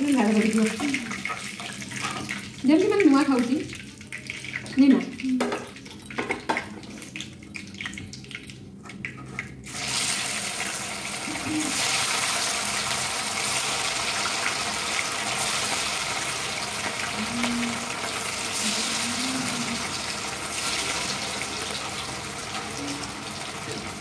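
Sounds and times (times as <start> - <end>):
food deep-frying in oil: 0.0 - 24.0.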